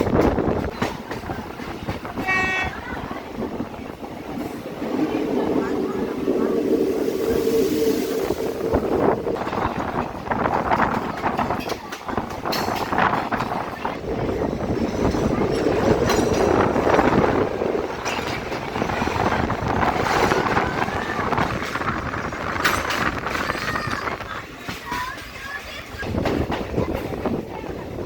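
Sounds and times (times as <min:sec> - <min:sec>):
train carriage rumbling on rails: 0:00.0 - 0:28.0.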